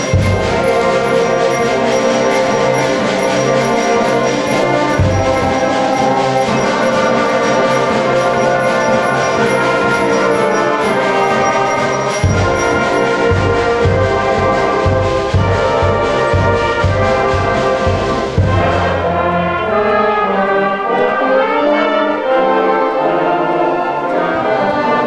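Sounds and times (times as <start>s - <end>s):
concert band playing chords: 0.0s - 25.0s.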